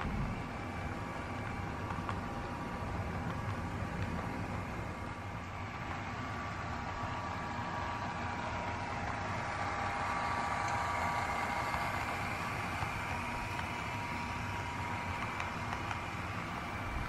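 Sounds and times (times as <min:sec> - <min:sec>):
model train running with whine: 0:00.0 - 0:17.0.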